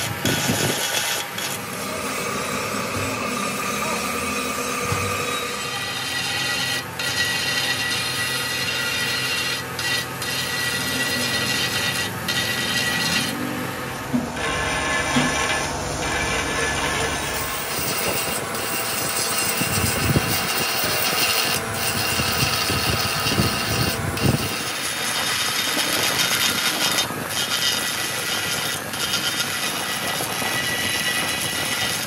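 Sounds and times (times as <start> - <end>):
high motor whine: 0.0 - 27.4
grinder grinding cast iron: 0.0 - 32.0.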